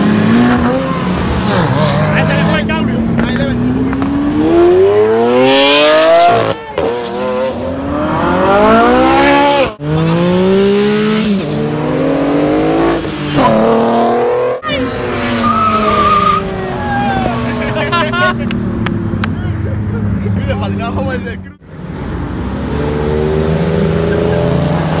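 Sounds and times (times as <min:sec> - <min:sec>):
car engines accelerating hard: 0:00.0 - 0:25.0.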